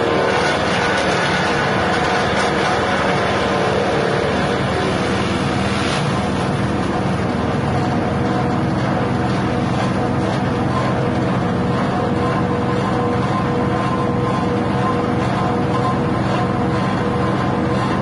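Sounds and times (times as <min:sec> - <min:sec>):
chopper machine motor running: 0:00.0 - 0:18.0.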